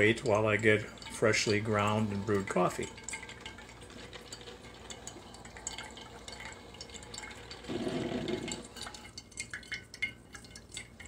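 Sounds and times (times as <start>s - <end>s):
coffee dripping into mug: 0.0s - 11.0s
coffee maker gurgling sputter: 0.0s - 11.0s.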